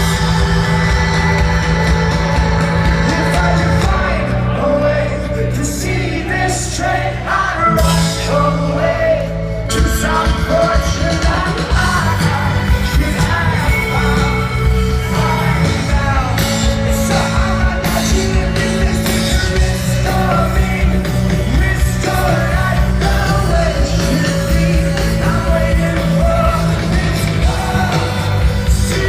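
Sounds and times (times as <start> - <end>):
person singing: 0.0 - 29.0
rock band playing loudly: 0.0 - 29.0.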